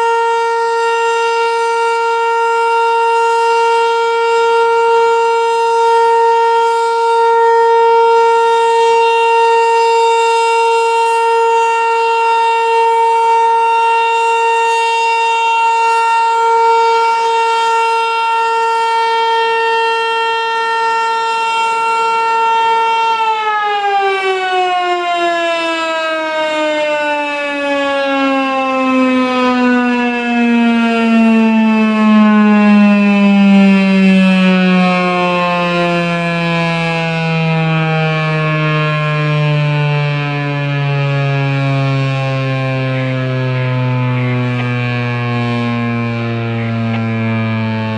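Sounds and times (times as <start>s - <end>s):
warning siren winding down: 0.0s - 47.9s.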